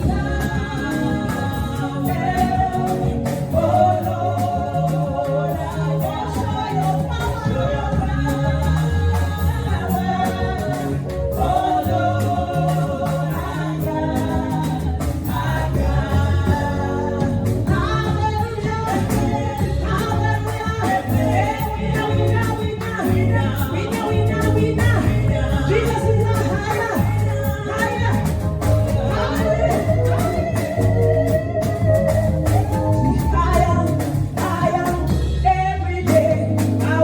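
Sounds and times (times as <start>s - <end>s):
band with bass and drums: 0.0s - 37.0s
voices singing gospel song: 0.0s - 37.0s.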